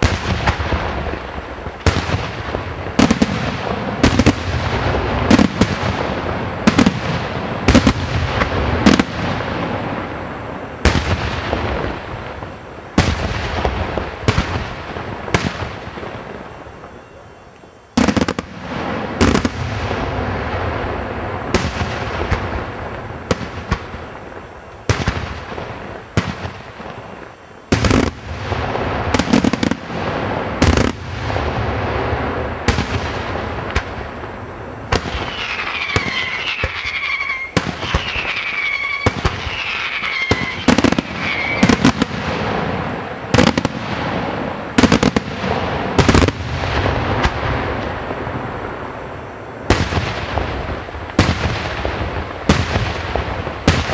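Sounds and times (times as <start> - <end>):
firework shells booming: 0.0 - 17.0, 18.0 - 48.9, 49.6 - 53.9
firework crackle and rumble: 0.0 - 53.9.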